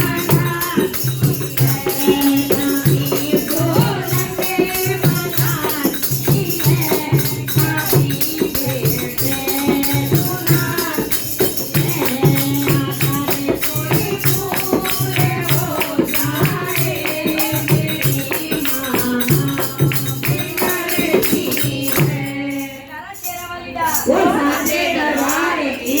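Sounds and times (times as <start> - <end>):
devotional song singing: 0.0 - 26.0
repeating percussion beat: 0.0 - 26.0.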